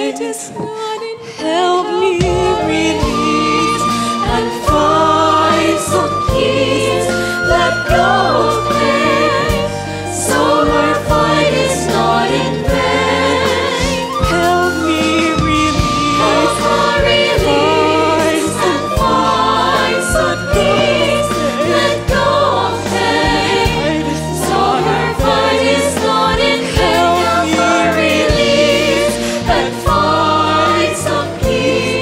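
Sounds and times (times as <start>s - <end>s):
instrumental accompaniment: 0.0s - 32.0s
voices singing with vibrato: 0.0s - 32.0s.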